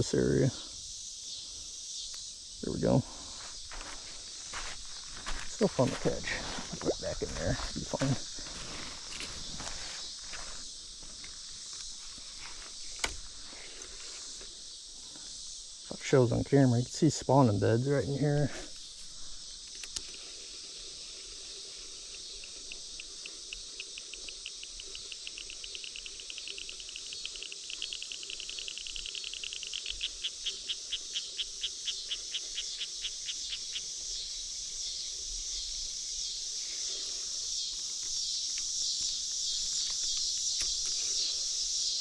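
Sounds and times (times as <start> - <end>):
insects chirping and trilling: 0.0 - 42.0
regular insect chirps: 0.0 - 42.0.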